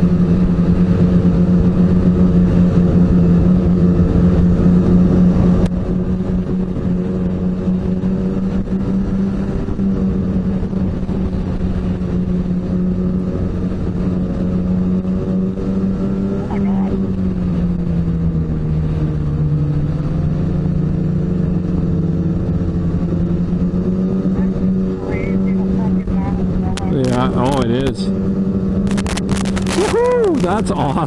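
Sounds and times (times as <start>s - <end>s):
snowmobile engine cruising: 0.0s - 31.0s.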